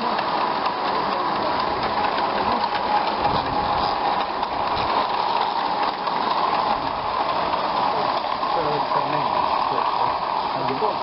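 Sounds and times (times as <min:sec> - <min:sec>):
model train wheels rolling on rail: 0:00.0 - 0:11.0.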